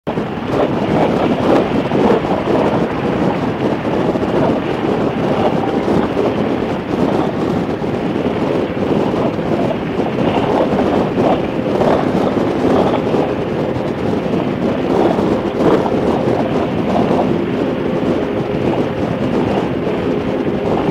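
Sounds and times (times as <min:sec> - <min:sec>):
wind noise on microphone: 0:00.0 - 0:20.9.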